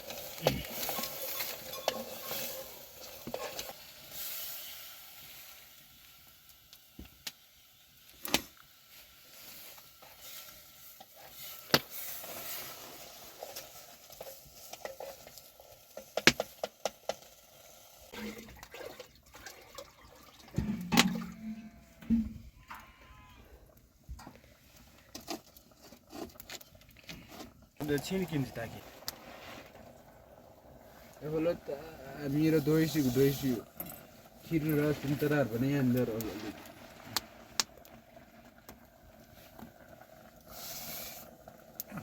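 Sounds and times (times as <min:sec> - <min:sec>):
faint sizzling hiss: 0:00.0 - 0:18.7, 0:19.9 - 0:42.0.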